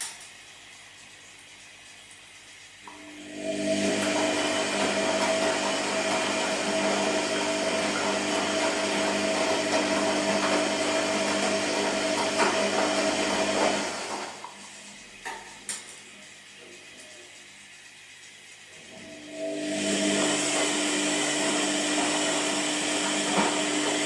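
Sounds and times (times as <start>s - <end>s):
washing machine motor whining: 0.7s - 24.0s.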